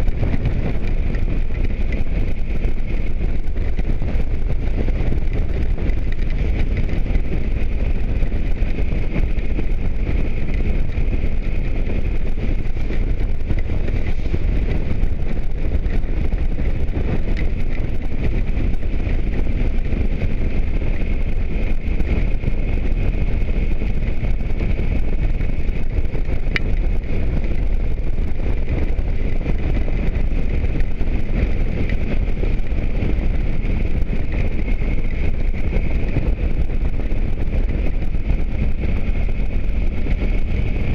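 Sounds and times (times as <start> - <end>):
motorcycle engine running: 0.0 - 40.9
road noise: 0.0 - 40.9
wind rush: 0.0 - 40.9.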